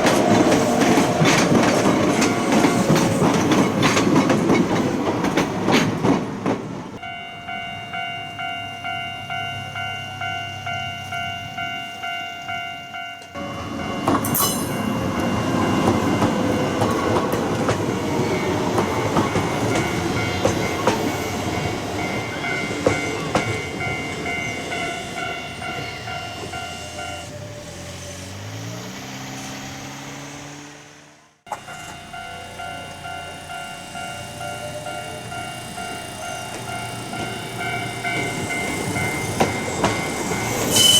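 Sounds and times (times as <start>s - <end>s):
level crossing alarm ringing: 0.0s - 3.5s, 7.0s - 27.4s, 31.5s - 40.9s
train wheels rumbling and clattering: 0.0s - 7.0s, 13.2s - 30.7s, 31.4s - 40.9s.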